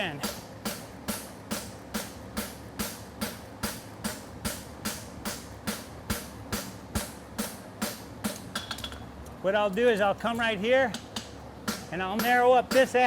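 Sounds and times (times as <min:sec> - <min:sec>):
hammer striking steel on anvil: 0:00.0 - 0:09.0, 0:10.4 - 0:13.0
cooling fan buzz: 0:00.0 - 0:13.0.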